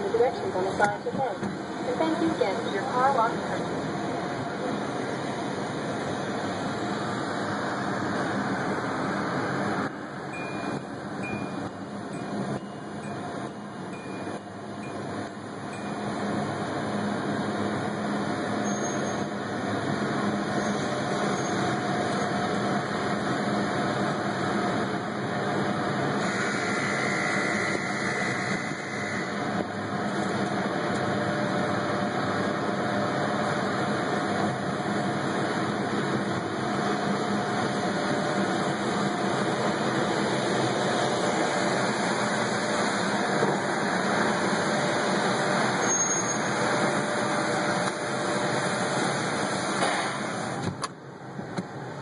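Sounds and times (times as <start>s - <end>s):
car wash machinery and water spray: 0.0s - 52.0s.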